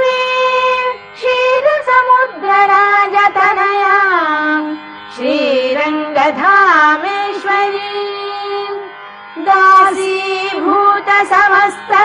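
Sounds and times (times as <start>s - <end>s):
steady drone: 0.0s - 12.0s.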